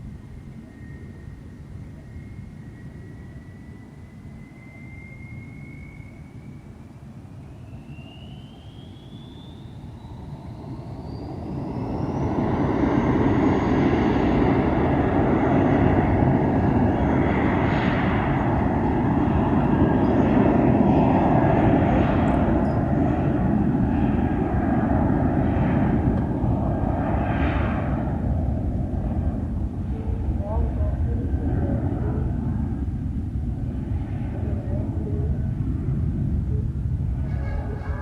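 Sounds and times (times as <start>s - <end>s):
jet engines whine and rush: 0.0s - 38.0s.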